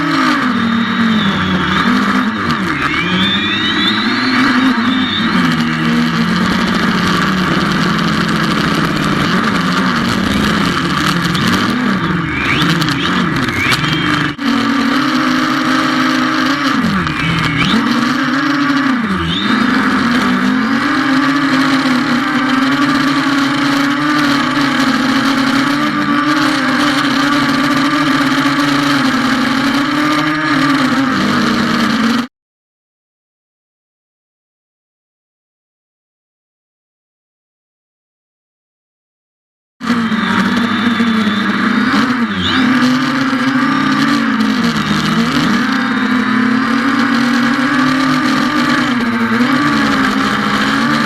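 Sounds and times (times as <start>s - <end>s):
drone propellers humming: 0.0s - 32.3s, 39.8s - 51.0s.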